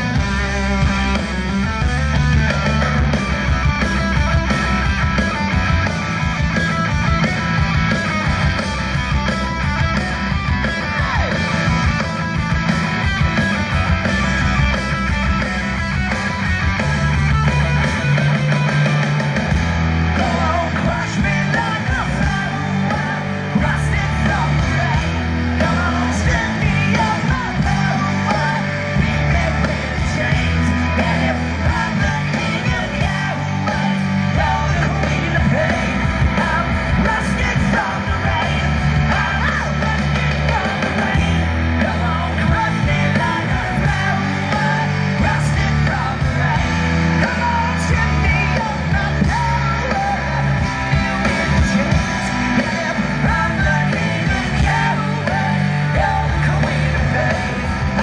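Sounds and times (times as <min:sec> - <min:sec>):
punk rock band playing: 0:00.0 - 0:58.0.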